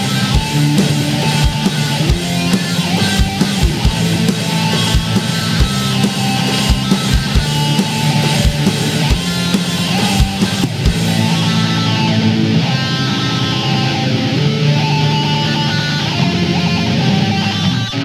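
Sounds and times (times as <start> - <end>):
heavy metal music: 0.0 - 18.0.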